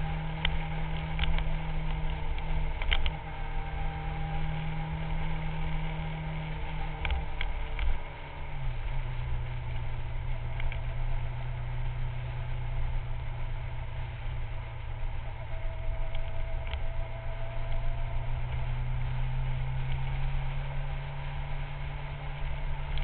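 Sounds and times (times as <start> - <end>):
motorcycle engine cruising: 0.0 - 23.0
wind rumbling on microphone: 0.0 - 23.0.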